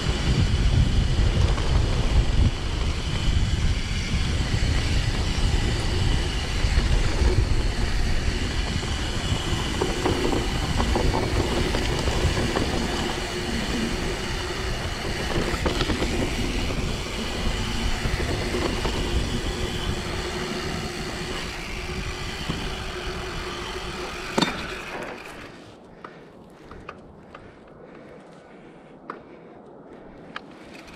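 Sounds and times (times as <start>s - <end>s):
wind on microphone: 0.0s - 25.5s
bike rattling over bumps: 0.0s - 28.2s, 30.5s - 30.9s
tyres rumbling: 0.0s - 28.7s.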